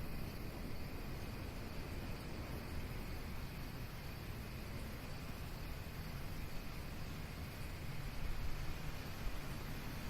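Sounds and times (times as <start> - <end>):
nature ambience hiss: 0.0 - 10.0.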